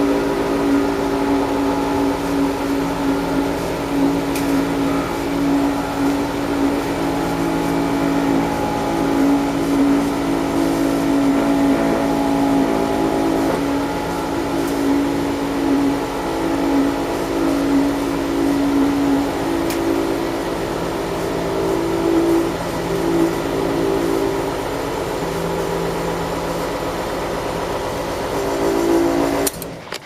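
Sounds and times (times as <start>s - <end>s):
air conditioner compressor humming: 0.0s - 30.0s.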